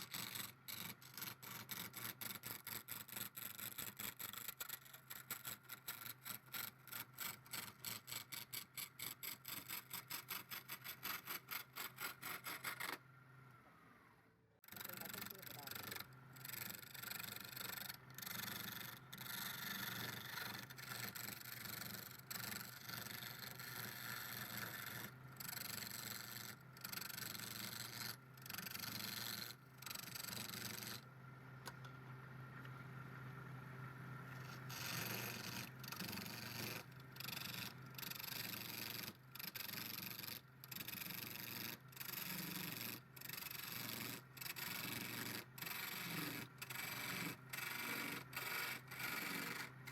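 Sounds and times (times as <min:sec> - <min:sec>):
turning tool scraping wood: 0:00.0 - 0:13.0, 0:14.7 - 0:31.0, 0:34.3 - 0:49.9.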